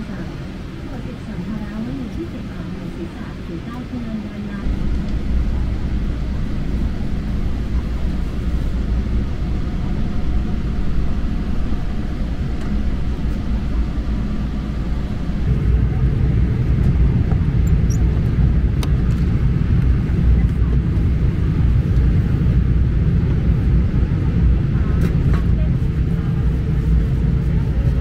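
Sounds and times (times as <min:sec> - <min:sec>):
airliner cabin rumble: 0:00.0 - 0:28.0.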